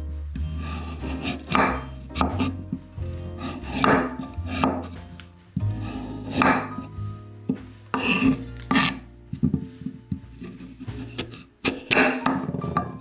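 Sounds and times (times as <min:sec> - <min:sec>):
knife scraping root on board: 0:00.5 - 0:02.7, 0:03.3 - 0:06.9, 0:07.5 - 0:12.5.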